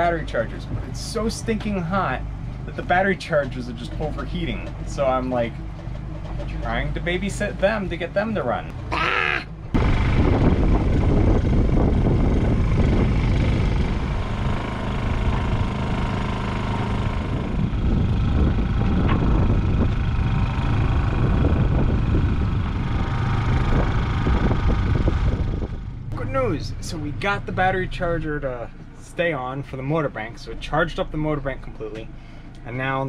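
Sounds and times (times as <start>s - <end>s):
portable generator running: 0.0s - 32.6s.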